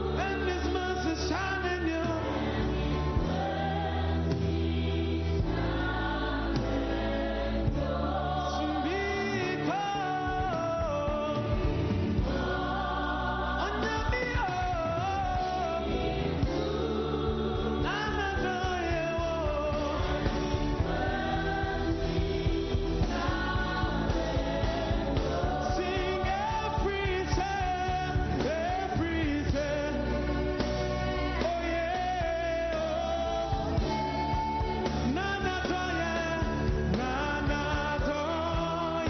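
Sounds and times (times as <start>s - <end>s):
group singing gospel song: 0.0s - 39.0s
instrumental accompaniment: 0.0s - 39.0s.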